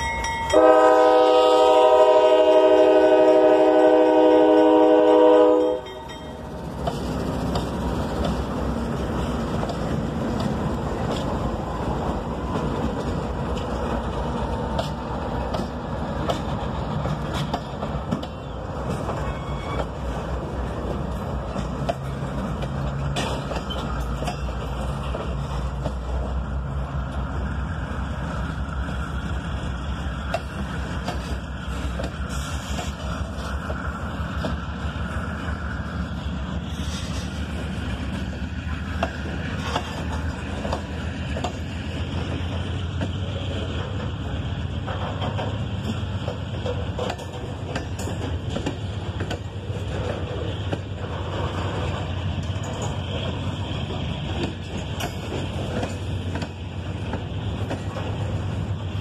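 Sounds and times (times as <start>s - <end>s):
diesel locomotives running: 0.0s - 59.0s
freight cars rolling on rails: 0.0s - 59.0s.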